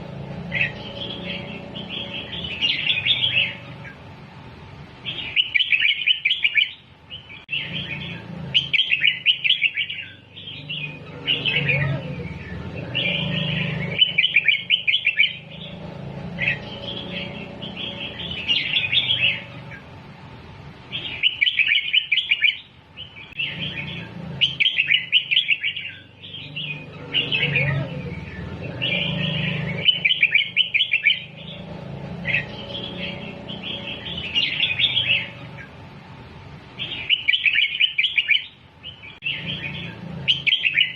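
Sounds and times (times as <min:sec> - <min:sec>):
bulbul chattering whistled song: 0:00.4 - 0:04.0, 0:05.0 - 0:19.9, 0:20.9 - 0:35.8, 0:36.8 - 0:40.9.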